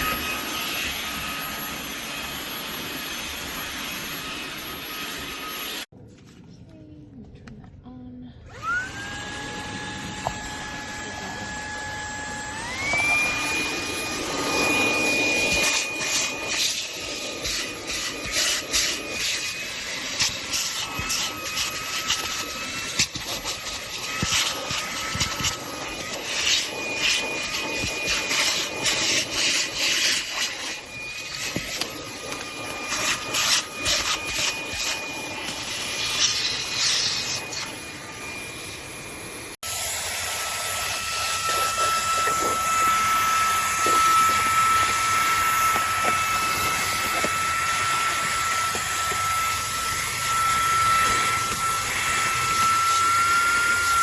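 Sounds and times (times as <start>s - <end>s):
handheld vacuum motor whine: 0.0s - 5.9s, 8.5s - 54.0s.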